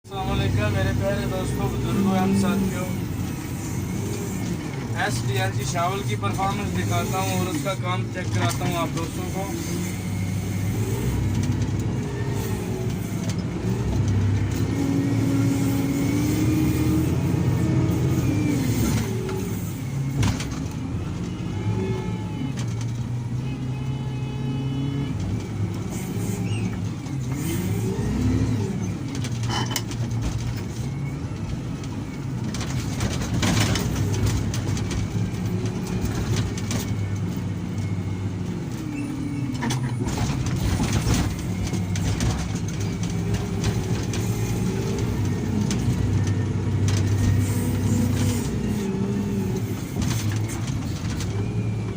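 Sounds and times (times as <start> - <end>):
diesel engine revving under load: 0.0 - 51.9.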